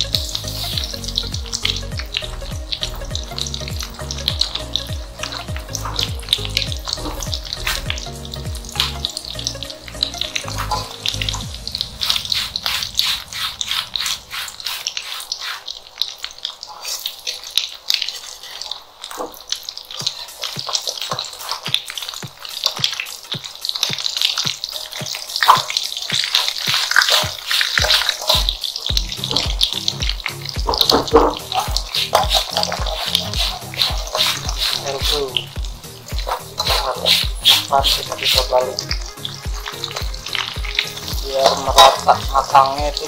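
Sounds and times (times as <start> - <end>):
background music with steady beat: 0.0 - 15.7, 19.4 - 43.0
fritters frying in hot oil: 0.0 - 43.0.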